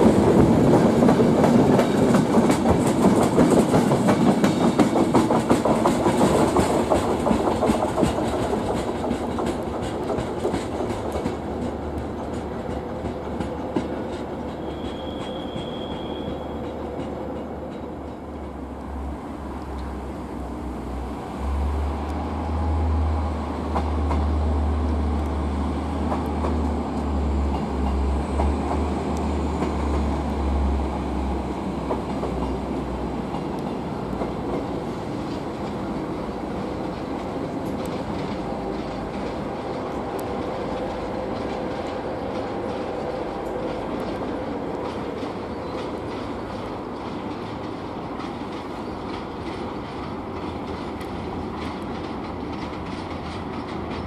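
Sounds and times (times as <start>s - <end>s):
wheels clicking over rail joints: 0.0s - 20.1s, 23.6s - 54.0s
train rumbling: 0.0s - 54.0s.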